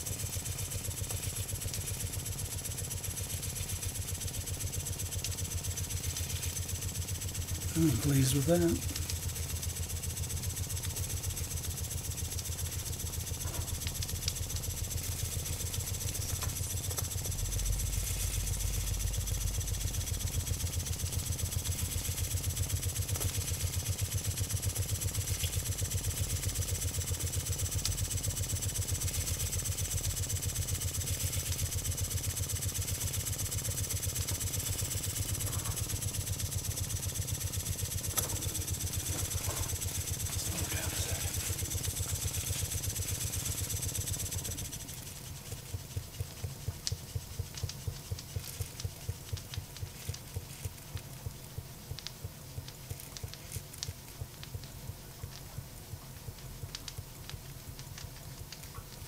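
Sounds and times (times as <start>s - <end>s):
faint steam hiss: 0.0s - 59.0s
model steam engine running: 0.0s - 59.0s.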